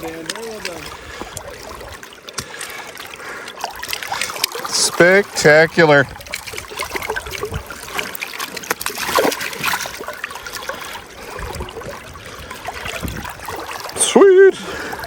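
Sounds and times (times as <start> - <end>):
river water splashing: 0.0 - 15.0.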